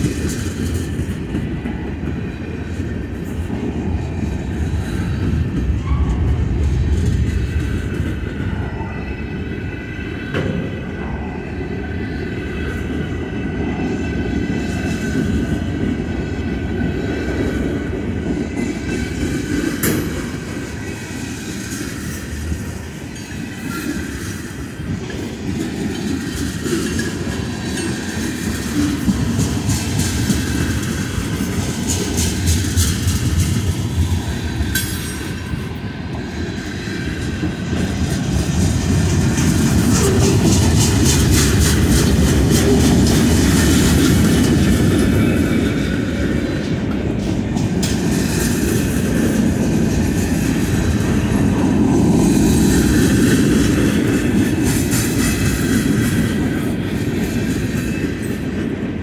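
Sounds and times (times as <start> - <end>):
clickety-clack over rail joints: 0.0 - 59.0
train wheels rumbling on rails: 0.0 - 59.0.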